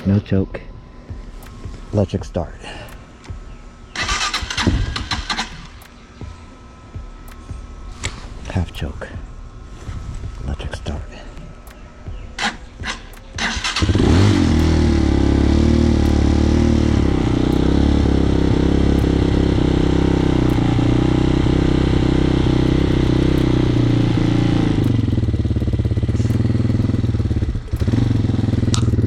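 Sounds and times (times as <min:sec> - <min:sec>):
dirt bike engine idling: 0:00.0 - 0:29.0.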